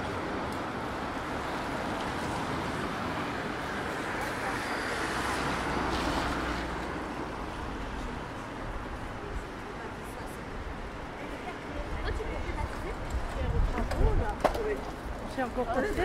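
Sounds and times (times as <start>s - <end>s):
city traffic on wet street: 0.0s - 16.0s.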